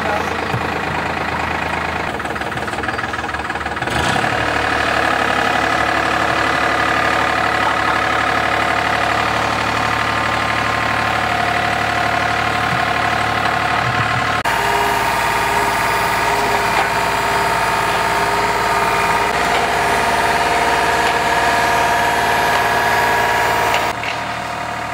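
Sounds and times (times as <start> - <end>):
drilling rig engine running: 0.0 - 24.9.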